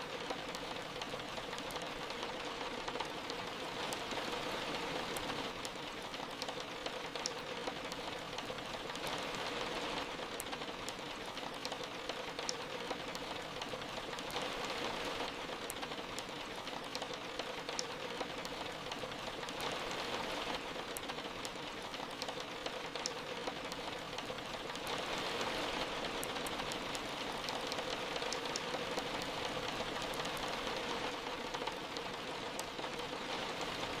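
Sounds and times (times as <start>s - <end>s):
soft rain falling: 0.0s - 34.0s.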